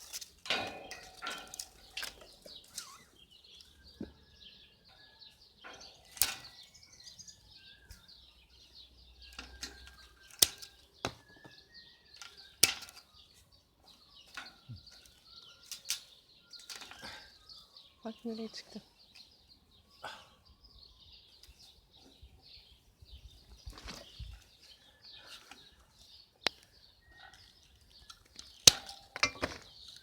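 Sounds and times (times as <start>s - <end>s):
birds chirping and whistling: 1.2s - 30.0s.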